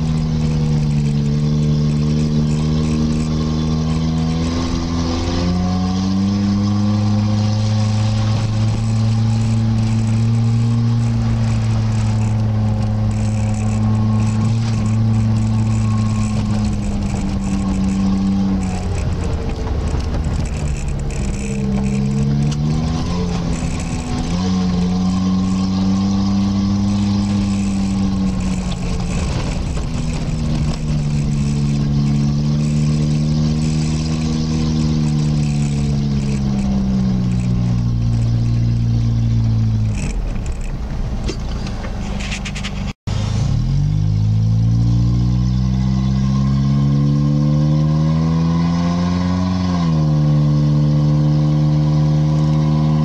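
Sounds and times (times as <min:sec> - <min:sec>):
off-road vehicle engine: 0:00.0 - 0:53.0.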